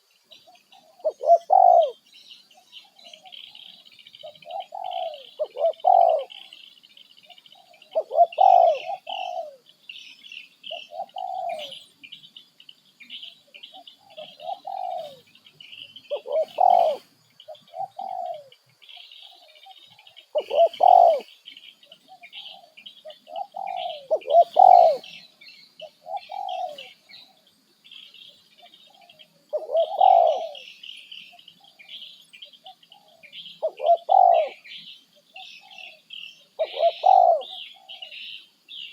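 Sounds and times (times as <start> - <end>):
bird cooing calls: 0.0 - 12.0, 13.0 - 38.9.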